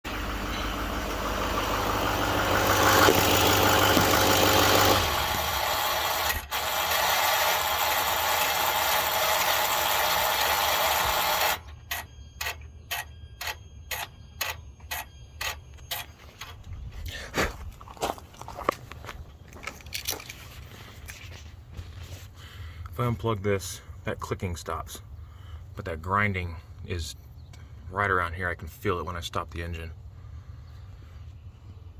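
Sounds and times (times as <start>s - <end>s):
diesel engine droning: 0.1s - 31.9s.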